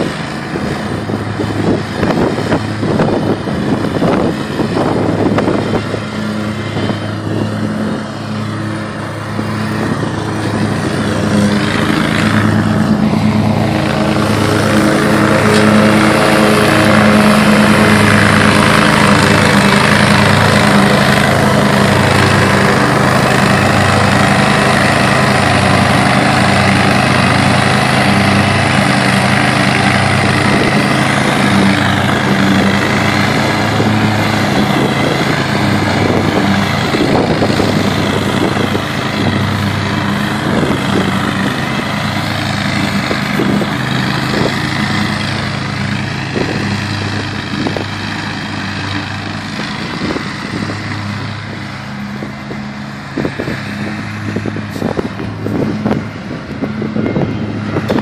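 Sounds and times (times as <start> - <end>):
lawn mower engine cutting grass: 0.0 - 58.0.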